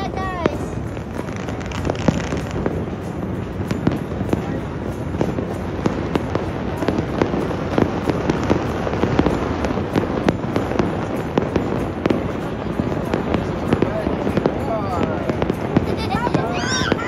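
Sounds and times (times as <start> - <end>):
rumble of distant fireworks: 0.0 - 17.0
sharp firecracker bangs: 0.1 - 17.0.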